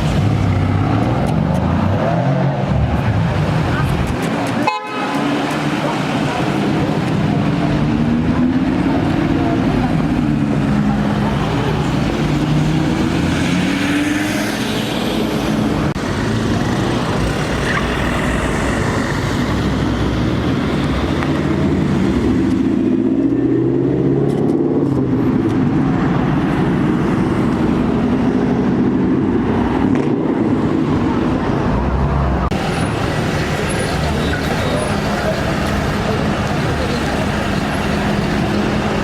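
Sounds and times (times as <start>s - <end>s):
car engines in traffic: 0.0s - 39.0s.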